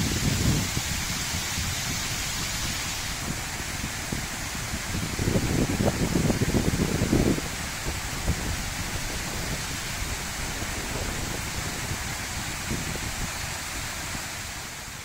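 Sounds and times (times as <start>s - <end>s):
water splashing down stone cascade: 0.0s - 15.0s.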